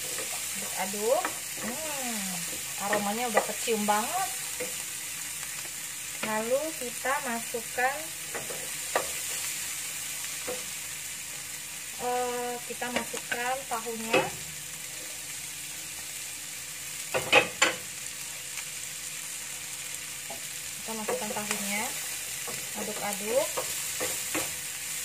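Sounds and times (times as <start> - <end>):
vegetables sizzling in a frying pan: 0.0 - 25.0.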